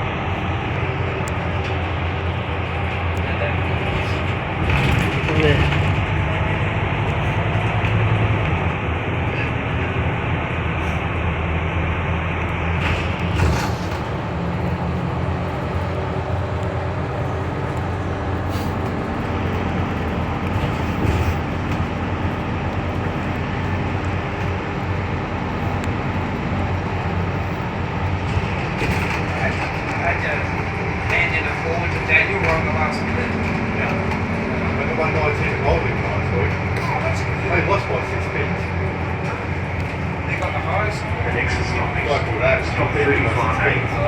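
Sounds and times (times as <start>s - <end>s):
bus diesel engine drone: 0.0s - 44.0s
road noise: 0.0s - 44.0s
rattles and clunks: 0.1s - 44.0s.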